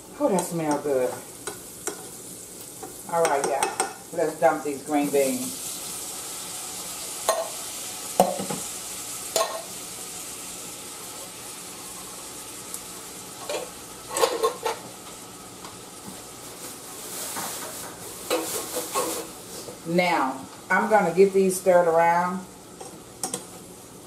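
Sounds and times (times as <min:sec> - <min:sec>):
onion and garlic sizzling: 0:00.0 - 0:24.0.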